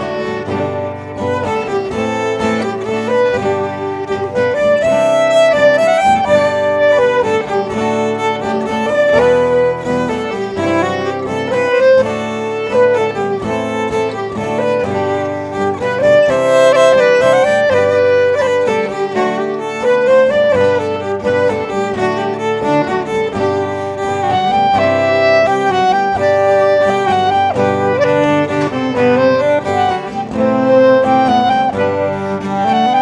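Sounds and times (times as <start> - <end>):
acoustic guitar: 0.0 - 33.0
clarinet: 0.0 - 33.0
fiddle: 0.0 - 33.0.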